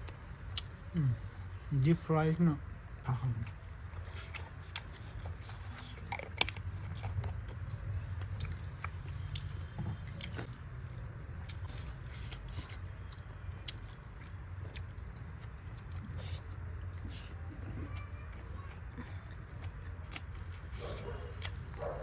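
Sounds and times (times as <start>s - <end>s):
person chewing food: 3.1s - 22.0s.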